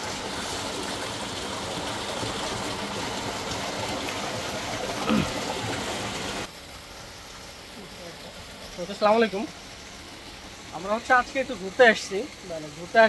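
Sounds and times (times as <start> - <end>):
water gushing into a tank: 0.0 - 13.0.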